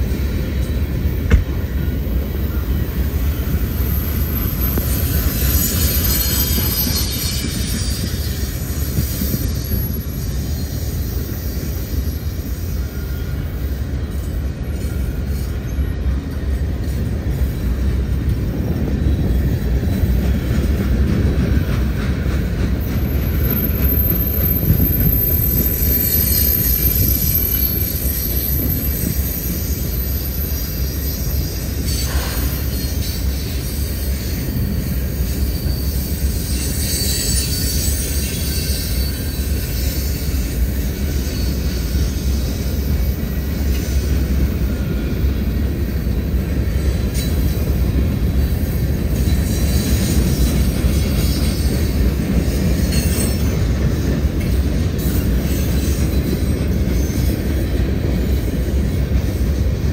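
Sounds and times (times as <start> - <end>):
freight train wheels rumbling: 0.0 - 59.9
high wheel squeal: 0.0 - 59.9.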